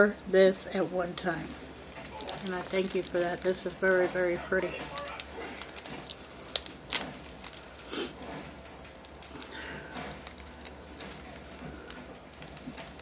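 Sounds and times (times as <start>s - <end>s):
taps and rustles of plastic bags: 1.9s - 13.0s.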